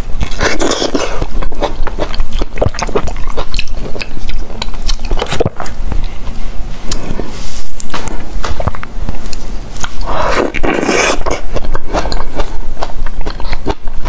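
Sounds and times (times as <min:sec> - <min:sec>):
wet chewing and lip-smacking: 0:00.1 - 0:07.2, 0:07.8 - 0:14.0.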